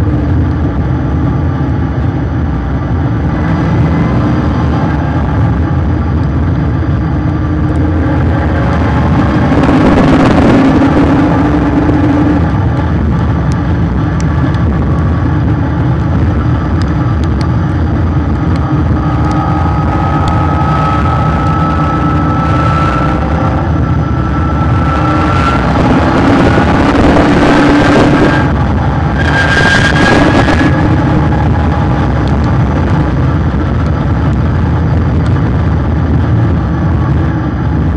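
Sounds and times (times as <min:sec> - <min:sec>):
race car engine whine: 0:00.0 - 0:37.9
wind and tyre roar: 0:00.0 - 0:37.9.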